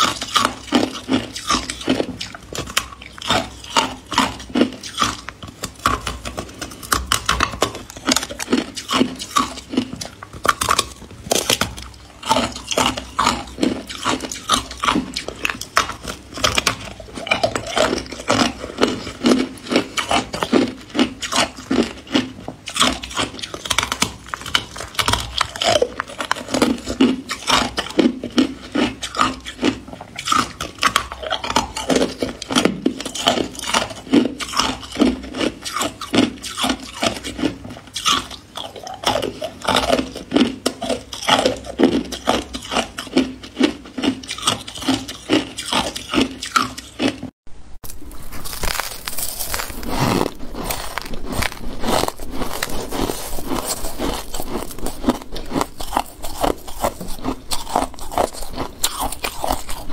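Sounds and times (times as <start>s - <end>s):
person crunching ice: 0.0s - 47.1s, 47.8s - 59.9s.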